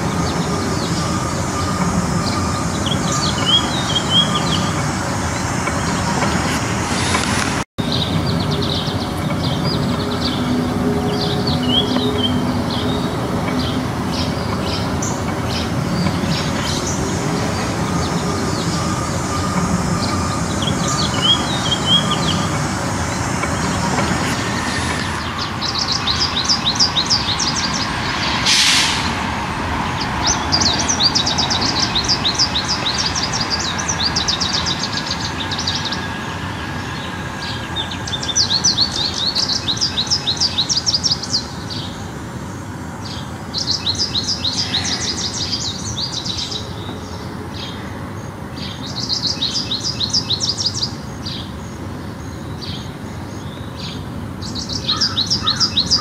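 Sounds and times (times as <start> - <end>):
birds chirping and singing: 0.0 - 42.0, 43.0 - 47.8, 52.4 - 56.0.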